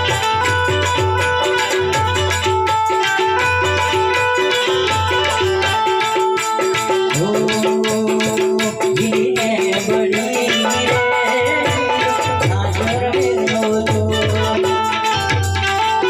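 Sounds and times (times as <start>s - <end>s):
folk music with drums and rattles: 0.0s - 16.0s.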